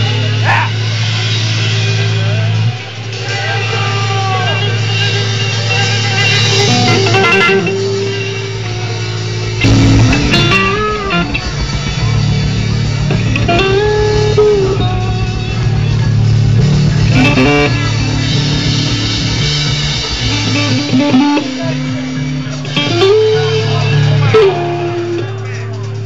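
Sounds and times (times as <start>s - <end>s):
distorted electric guitar: 0.0s - 26.0s
driving drum kit: 0.0s - 26.0s.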